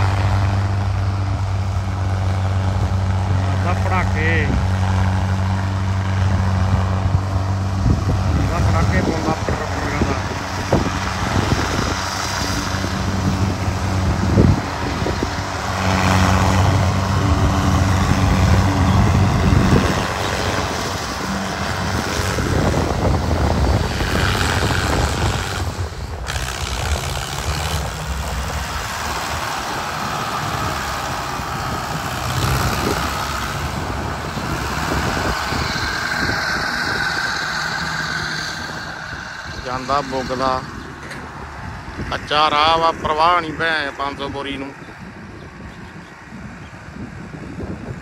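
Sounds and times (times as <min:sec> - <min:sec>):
diesel tractor engine running: 0:00.0 - 0:48.0.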